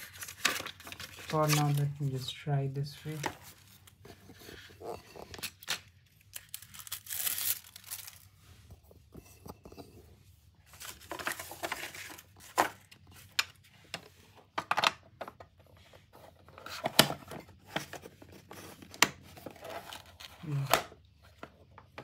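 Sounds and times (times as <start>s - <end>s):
plastic and paper crinkling: 0.0s - 9.7s, 10.6s - 14.3s, 15.2s - 22.0s.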